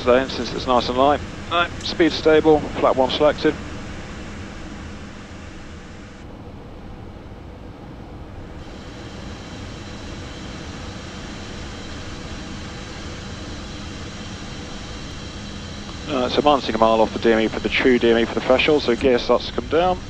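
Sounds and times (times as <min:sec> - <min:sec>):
cockpit airflow: 0:00.0 - 0:07.0, 0:08.3 - 0:20.0
jet engines humming: 0:00.0 - 0:20.0.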